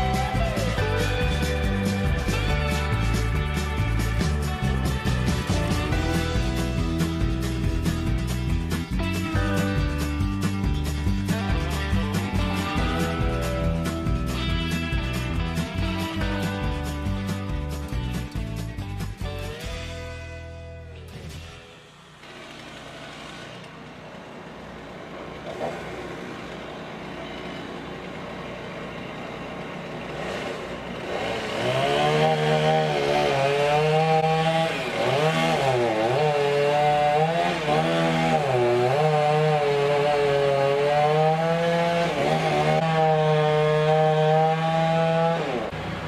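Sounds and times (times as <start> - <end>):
chainsaw at full throttle: 0.0 - 17.9, 21.8 - 46.0.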